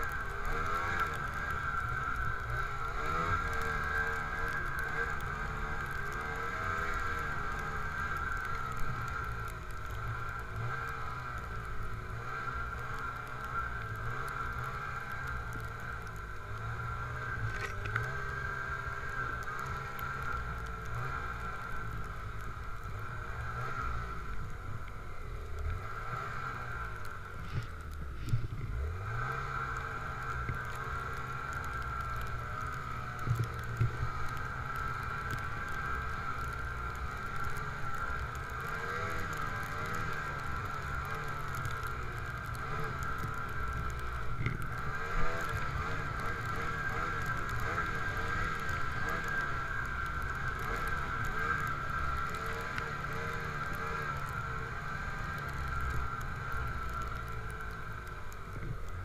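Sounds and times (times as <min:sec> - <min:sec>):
snowmobile engine drone: 0:00.0 - 0:59.0.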